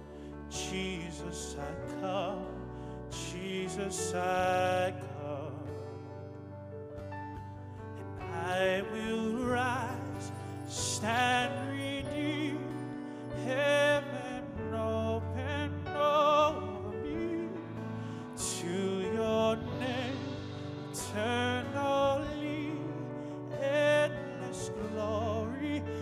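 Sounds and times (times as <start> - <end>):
man singing into a microphone: 0.3 - 6.1, 8.0 - 26.0.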